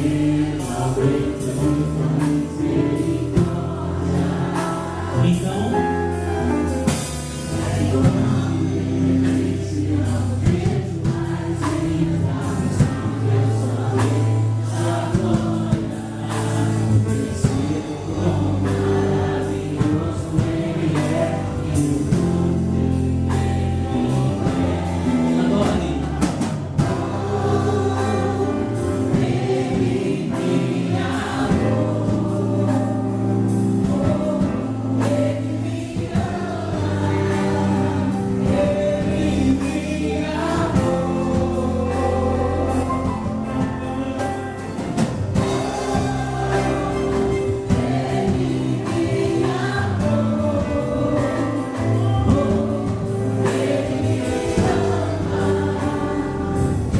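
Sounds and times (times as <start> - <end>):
drum strokes: 0.0 - 56.9
gospel band: 0.0 - 56.9
voices singing together: 0.0 - 56.9.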